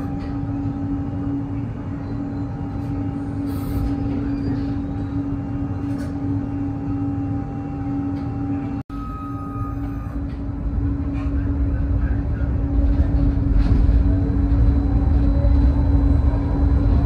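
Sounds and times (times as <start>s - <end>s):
tram low hum: 0.0s - 17.0s.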